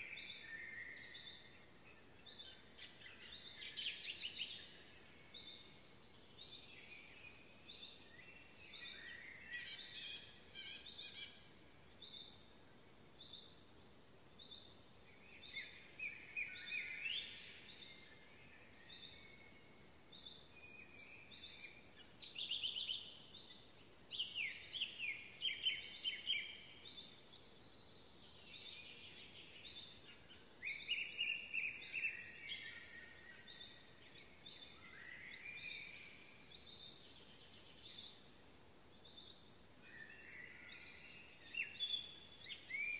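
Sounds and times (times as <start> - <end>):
faint outdoor hiss: 0.0 - 42.9.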